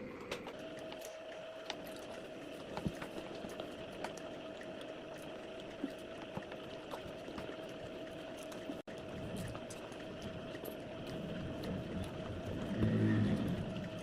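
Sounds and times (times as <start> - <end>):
faint steady hum: 0.0 - 14.0
wet chewing and smacking: 0.5 - 14.0.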